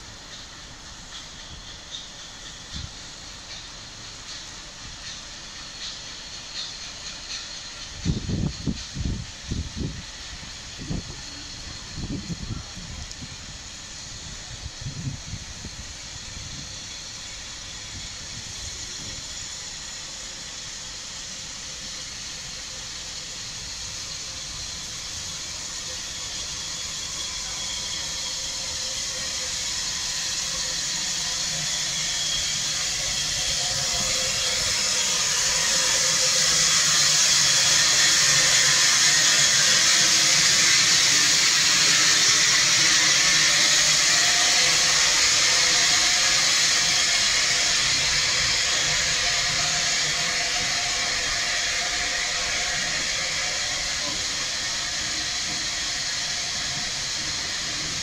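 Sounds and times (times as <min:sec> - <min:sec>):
steam locomotive hissing: 0:00.0 - 0:58.0.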